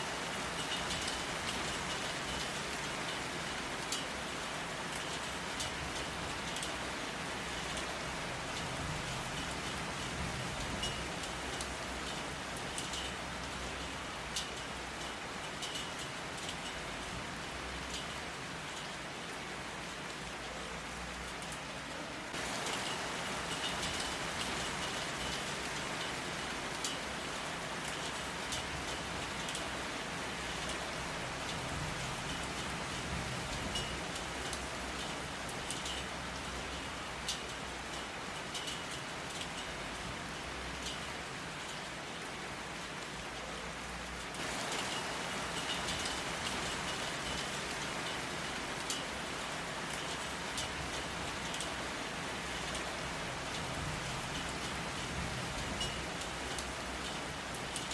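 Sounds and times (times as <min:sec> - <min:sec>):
raindrops ticking on a surface: 0:00.0 - 0:57.9
steady rain falling: 0:00.0 - 0:57.9.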